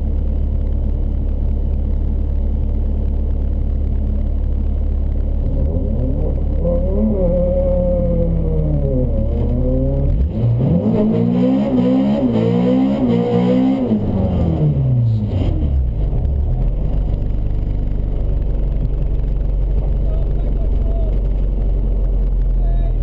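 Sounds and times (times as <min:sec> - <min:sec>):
car engine revving: 0:02.4 - 0:22.9.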